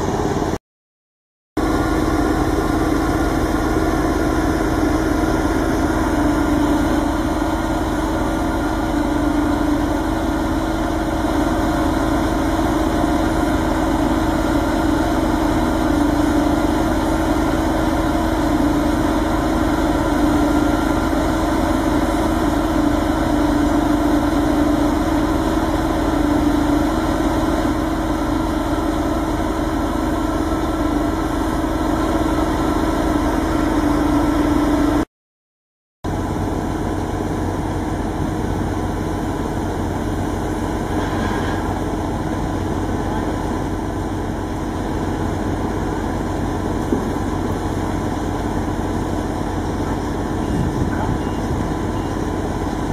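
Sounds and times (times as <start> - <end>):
heavy engine idling: 0.0 - 0.6, 1.6 - 35.1, 36.1 - 52.9.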